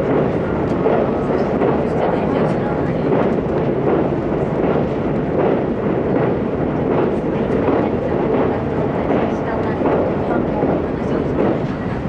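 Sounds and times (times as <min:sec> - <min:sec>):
train rumbling across steel bridge: 0:00.0 - 0:12.0.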